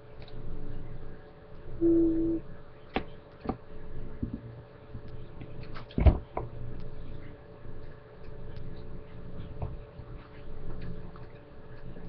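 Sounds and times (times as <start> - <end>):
low room rumble: 0.0 - 12.0
steady hum: 0.0 - 12.0.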